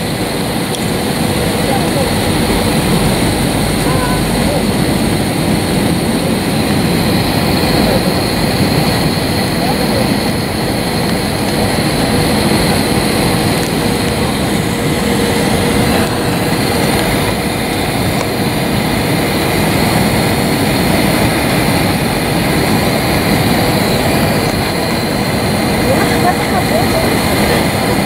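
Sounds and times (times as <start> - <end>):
jet engines and airflow rushing: 0.0 - 28.0.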